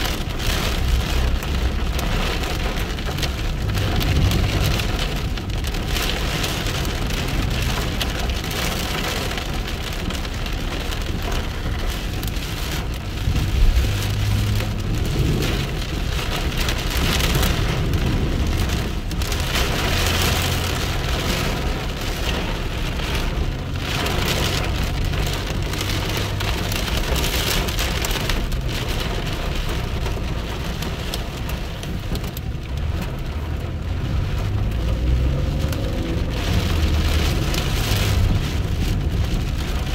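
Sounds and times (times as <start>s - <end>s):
heavy rain drumming: 0.0s - 39.9s
low rumble: 0.0s - 39.9s.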